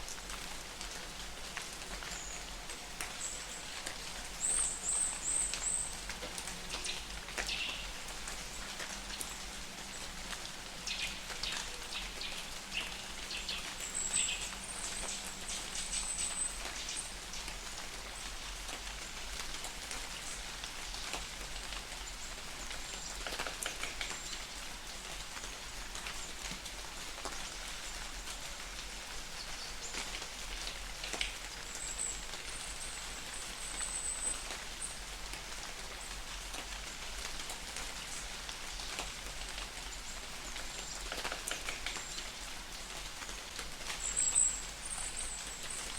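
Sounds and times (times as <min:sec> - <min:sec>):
light rain hiss: 0:00.0 - 0:45.9
raindrops ticking: 0:00.0 - 0:45.9.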